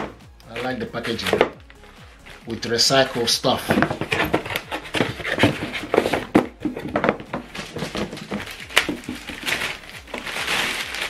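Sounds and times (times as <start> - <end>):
cardboard and paper packaging rustling: 0.0 - 11.0.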